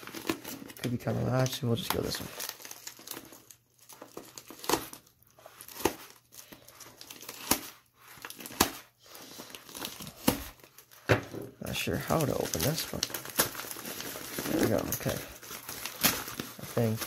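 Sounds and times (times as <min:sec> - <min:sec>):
plastic mailer crinkling and tearing: 0:00.0 - 0:17.0.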